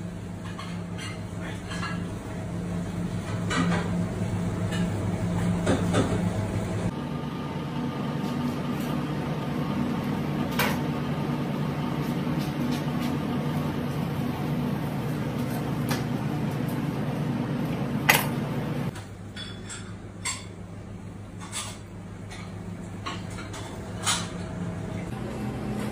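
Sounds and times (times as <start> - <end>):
kitchen hum: 0.0 - 25.9.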